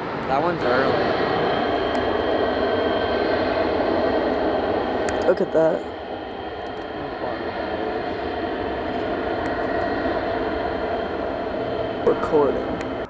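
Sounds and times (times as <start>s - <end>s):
jet airliner engines rushing: 0.0s - 13.0s.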